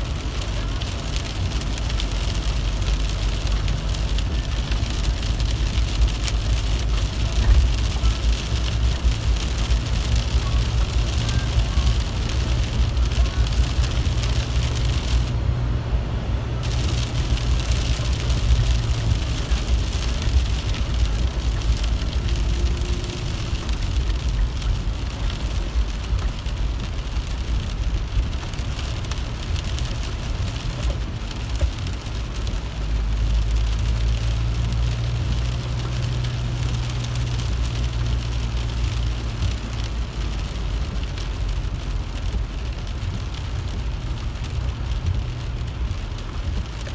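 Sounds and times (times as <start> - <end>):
car engine and tyre rumble: 0.0 - 46.9
rain drops ticking on car: 0.0 - 46.9.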